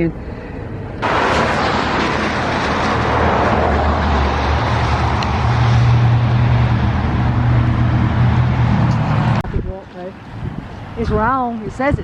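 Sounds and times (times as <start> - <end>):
car engine humming: 0.0 - 11.5
road noise: 0.0 - 12.0.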